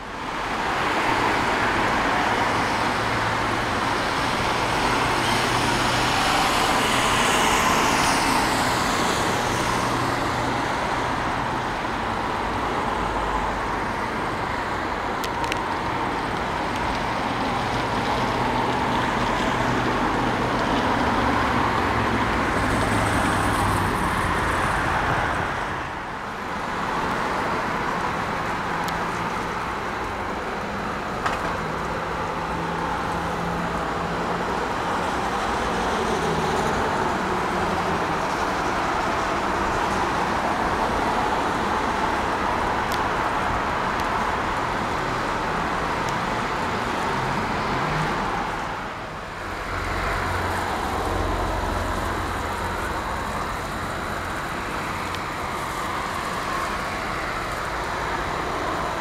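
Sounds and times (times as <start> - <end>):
road traffic noise: 0.0 - 59.0
vehicles passing: 0.0 - 59.0.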